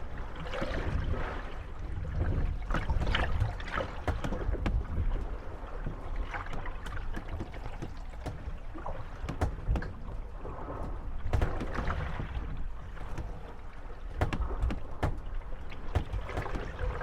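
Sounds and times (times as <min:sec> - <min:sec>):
boats creaking: 0:00.0 - 0:17.0
water slapping against boat hulls: 0:00.0 - 0:17.0
sharp wooden knocks: 0:02.8 - 0:17.0.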